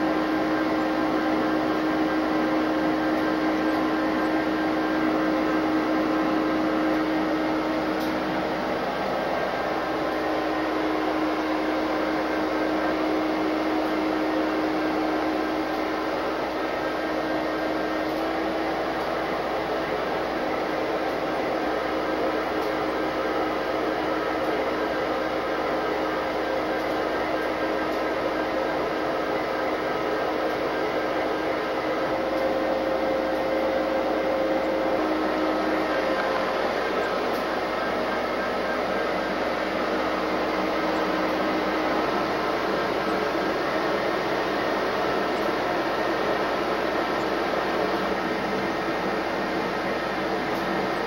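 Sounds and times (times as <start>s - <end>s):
locomotive engine idling drone: 0.0s - 51.0s.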